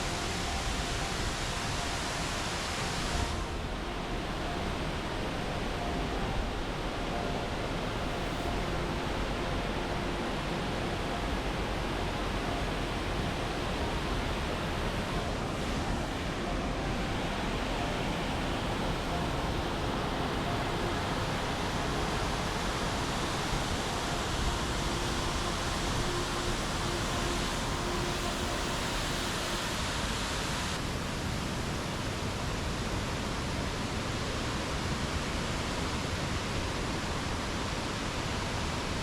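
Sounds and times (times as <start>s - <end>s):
waterfall rushing water: 0.0s - 39.0s.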